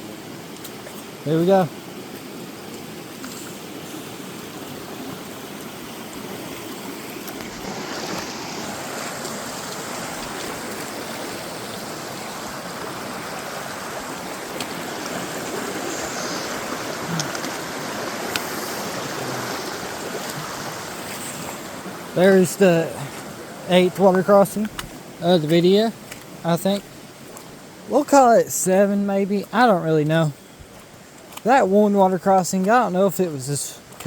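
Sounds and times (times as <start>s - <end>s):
creek water rushing over rocks: 0.0s - 34.0s.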